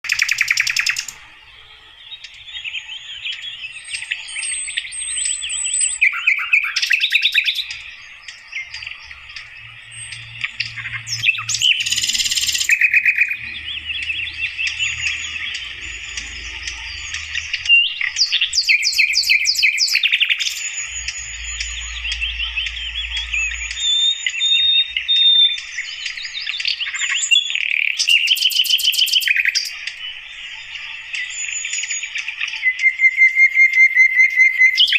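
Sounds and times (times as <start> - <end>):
bird twittering: 0.0 - 34.9
high whistled bird notes: 0.0 - 34.9.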